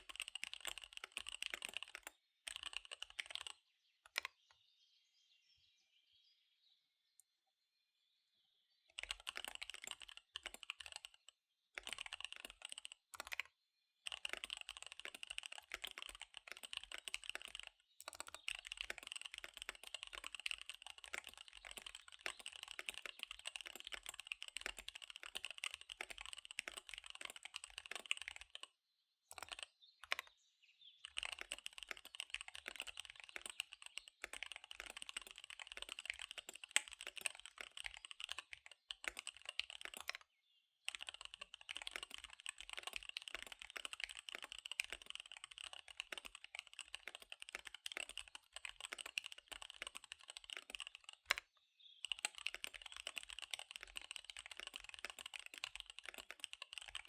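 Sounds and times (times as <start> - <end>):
fast typing on mechanical keyboard: 0.0 - 4.3, 9.0 - 28.7, 29.3 - 30.3, 31.0 - 40.2, 40.8 - 57.0.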